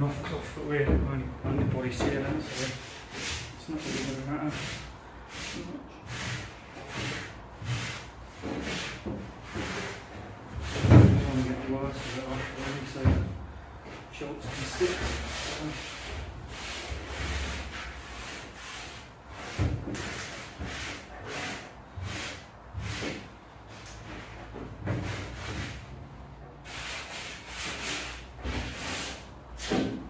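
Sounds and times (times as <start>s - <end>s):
cloth scrubbing metal floor: 0.4s - 30.0s.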